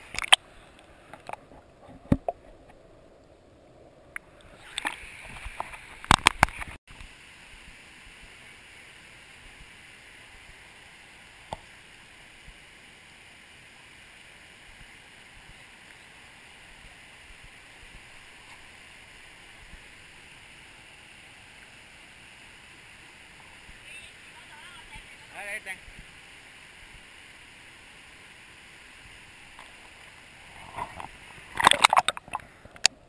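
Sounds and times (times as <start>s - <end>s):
stream and small waterfall: 0.0s - 33.0s.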